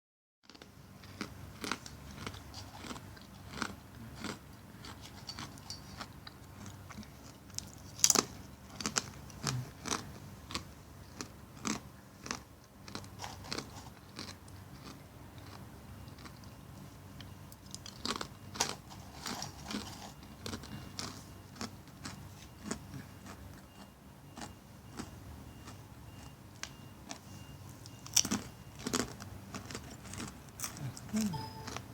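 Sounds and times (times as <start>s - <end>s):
person chewing crisp chips: 0.5s - 31.9s.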